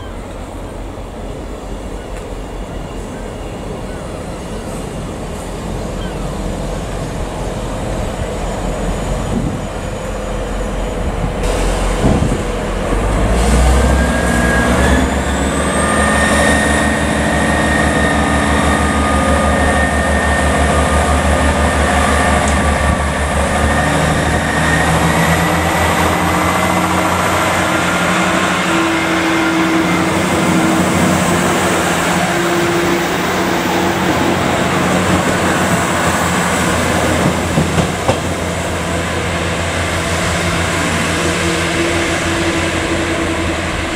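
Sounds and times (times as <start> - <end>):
diesel train engines throbbing: 0.0 - 43.9
train whine rising in pitch: 0.0 - 43.9.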